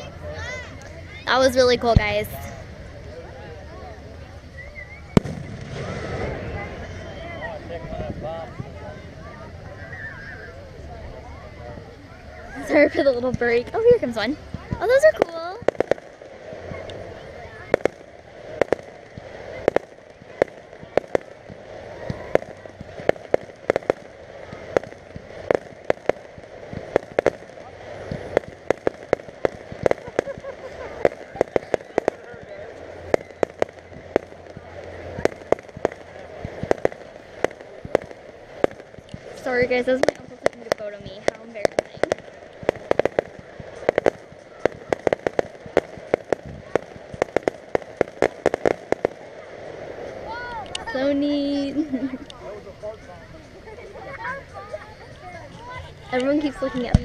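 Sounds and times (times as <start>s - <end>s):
fireworks bangs and pops: 0.0s - 10.3s, 11.0s - 57.0s
background hiss: 0.0s - 57.0s.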